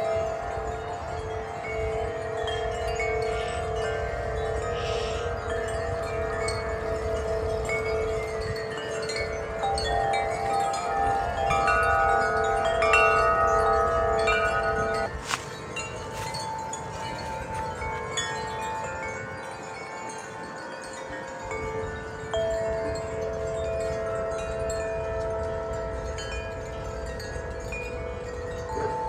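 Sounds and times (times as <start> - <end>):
low wind rumble: 0.0 - 29.0
wind chimes ringing: 0.0 - 29.0.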